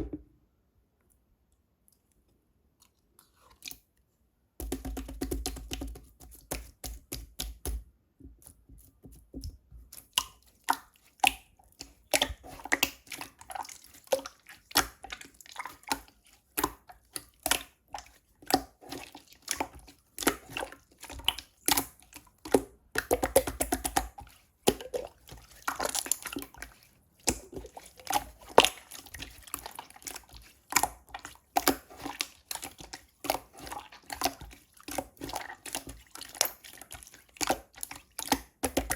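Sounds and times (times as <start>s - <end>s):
slime squishing with wet pops: 4.6s - 38.9s.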